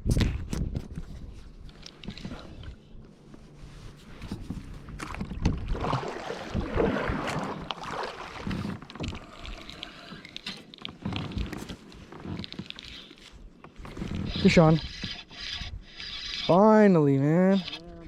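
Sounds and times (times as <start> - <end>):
water lapping against hull: 2.0 - 16.6.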